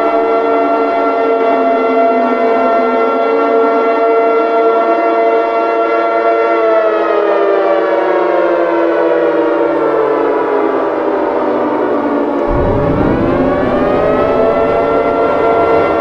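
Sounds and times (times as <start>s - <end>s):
civil defense siren: 0.0s - 16.0s.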